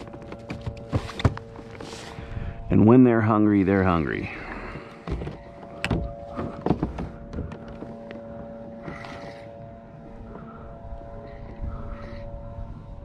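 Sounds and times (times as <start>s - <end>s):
faint hum of held tones: 0.0s - 13.0s.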